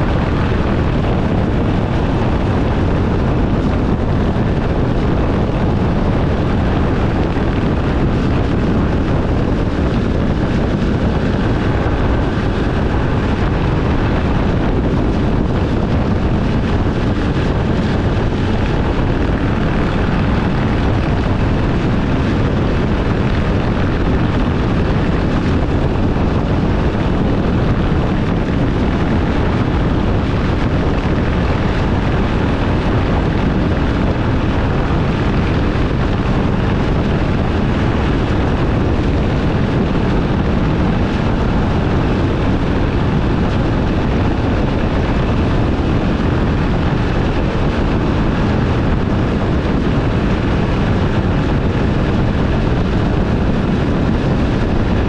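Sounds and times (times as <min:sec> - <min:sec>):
low engine and road rumble: 0:00.0 - 0:55.0
wind buffeting microphone: 0:00.0 - 0:55.0.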